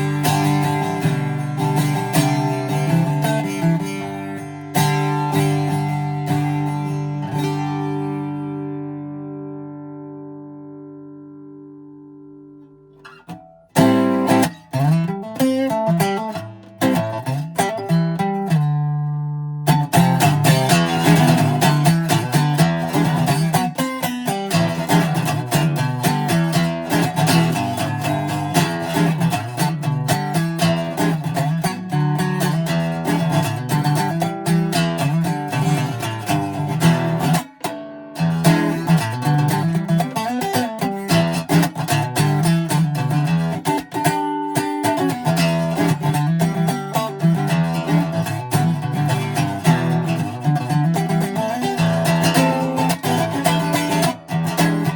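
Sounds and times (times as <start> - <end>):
acoustic guitar playing: 0.0 - 54.9.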